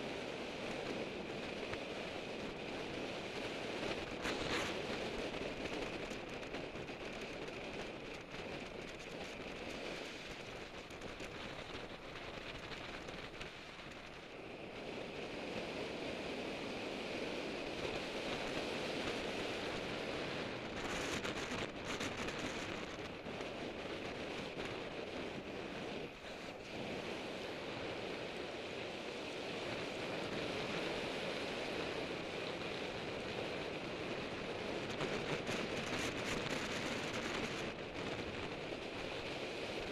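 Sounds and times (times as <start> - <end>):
road noise: 0.0 - 39.9
wind rush on microphone: 0.0 - 39.9.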